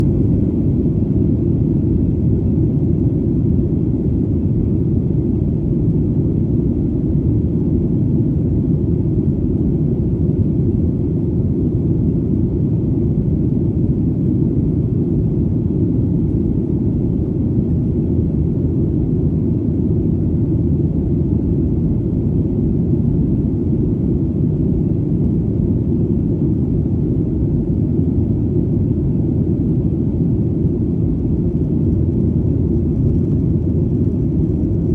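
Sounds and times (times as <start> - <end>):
airplane rumble in flight: 0.0 - 34.9.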